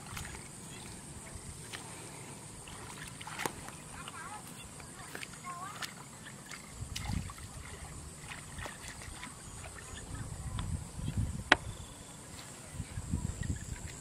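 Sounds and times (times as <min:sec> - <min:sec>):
muddy water sloshing and splashing: 0:00.0 - 0:11.3, 0:12.2 - 0:14.0
high insect whine: 0:00.0 - 0:14.0.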